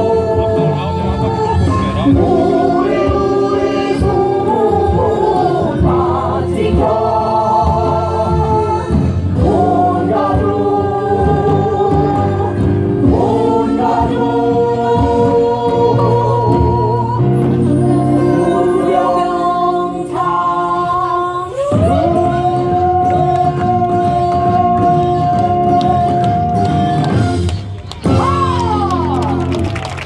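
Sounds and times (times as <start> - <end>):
voices singing together: 0.0 - 27.4
instrumental accompaniment: 0.0 - 29.6.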